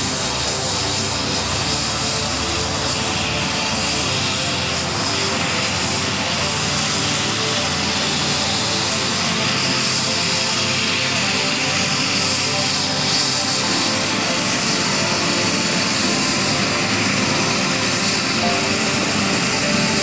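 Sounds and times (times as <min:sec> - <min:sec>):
helicopter rotor noise: 0:00.0 - 0:20.0
helicopter turbine whine: 0:00.0 - 0:20.0.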